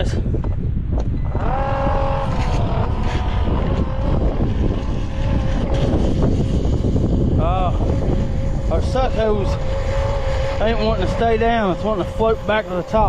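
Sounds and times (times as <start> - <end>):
wind rumble on microphone: 0.0 - 13.0
pump motor whine: 0.4 - 13.0.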